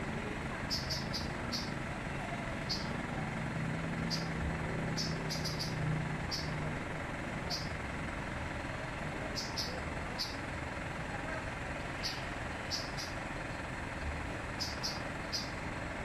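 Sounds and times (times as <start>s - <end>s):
low engine hum: 0.0s - 16.0s
vehicle noise: 0.0s - 16.0s.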